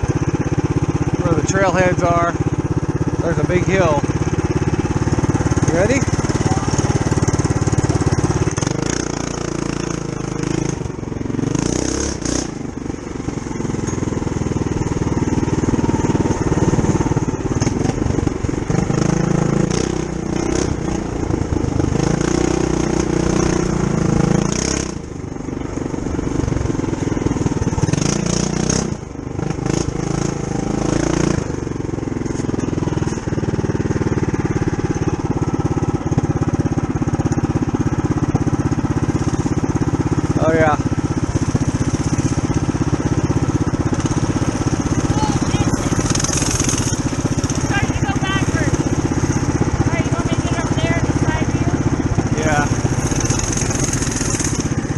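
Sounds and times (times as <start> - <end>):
mini bike engine revving: 0.0 - 54.9.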